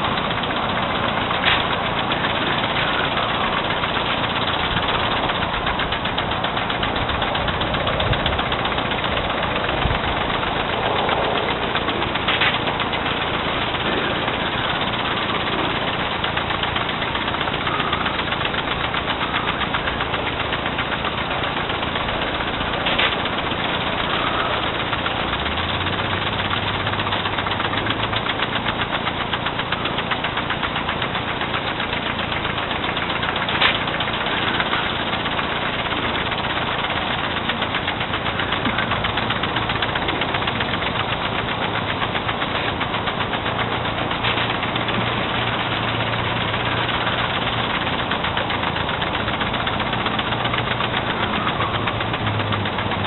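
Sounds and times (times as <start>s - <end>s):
lawn sprinklers hissing and ticking: 0.0s - 53.0s
low hum: 0.0s - 53.0s.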